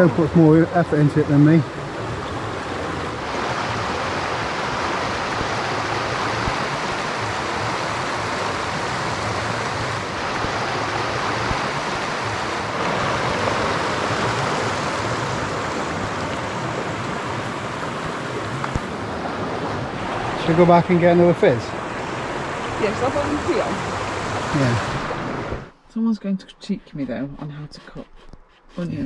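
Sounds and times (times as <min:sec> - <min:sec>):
running water: 0:00.0 - 0:25.7.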